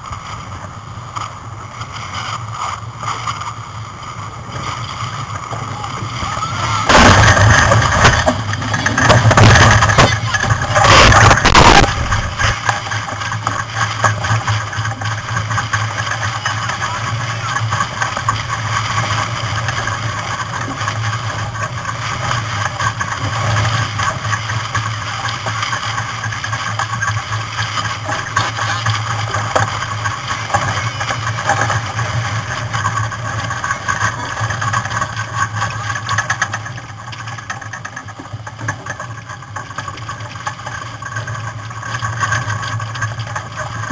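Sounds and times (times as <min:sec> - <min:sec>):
constant low hum: 0:00.0 - 0:43.9
water rushing past boat: 0:00.0 - 0:43.9.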